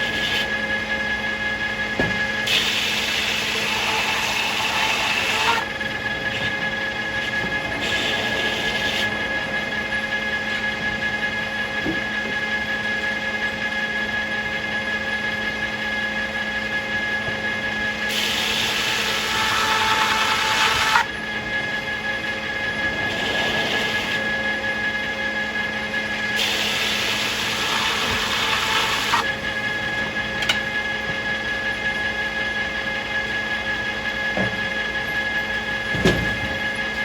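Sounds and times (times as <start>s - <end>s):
circular sawmill machine hum: 0.0s - 37.0s.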